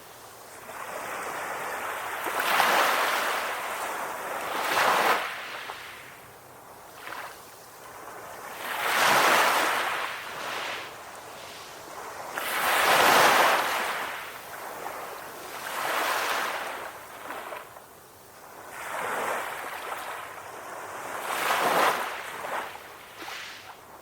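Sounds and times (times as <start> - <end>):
small waves washing ashore: 0.0 - 24.0.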